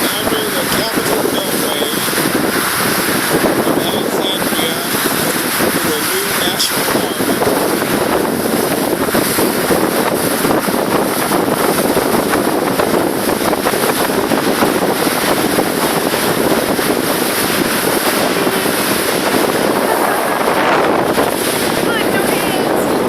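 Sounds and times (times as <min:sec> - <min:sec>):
boat moving through water: 0:00.0 - 0:23.0
wind on microphone: 0:00.0 - 0:23.0.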